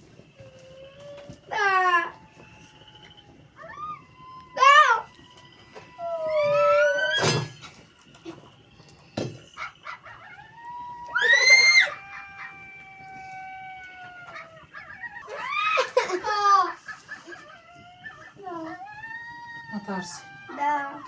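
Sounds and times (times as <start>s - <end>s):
drawn-out animal cries: 0.0s - 7.7s, 8.3s - 21.0s.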